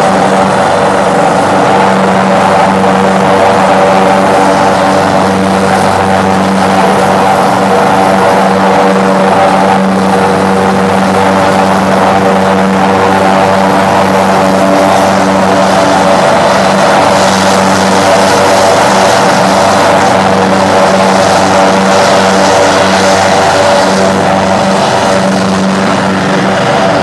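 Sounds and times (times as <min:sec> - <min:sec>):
helicopter turbine and rotor whine: 0:00.0 - 0:27.0.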